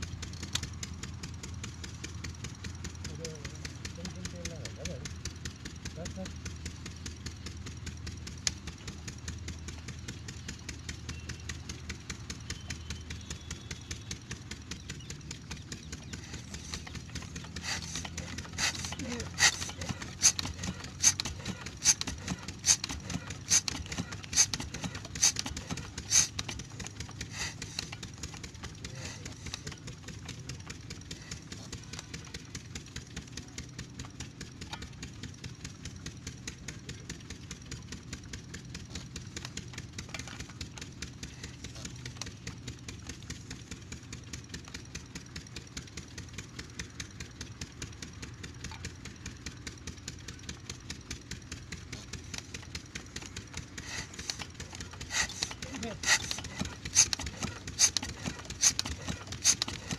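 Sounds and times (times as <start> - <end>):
diesel engine running: 0.0 - 59.9
engine sharp knocks: 0.0 - 59.9.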